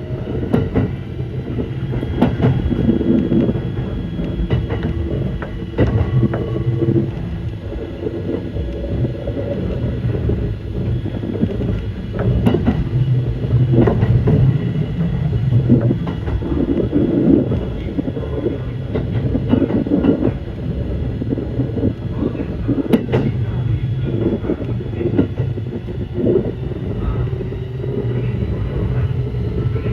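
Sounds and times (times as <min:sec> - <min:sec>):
electric train rumbling: 0:00.0 - 0:29.9.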